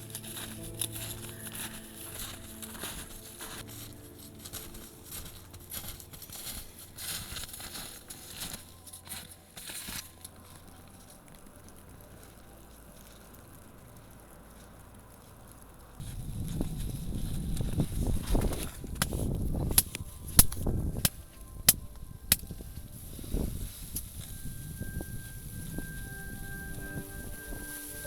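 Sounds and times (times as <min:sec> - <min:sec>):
crinkling and rustling: 0:00.0 - 0:28.0
faint background music: 0:00.0 - 0:28.0
faint steady hiss: 0:00.0 - 0:28.0.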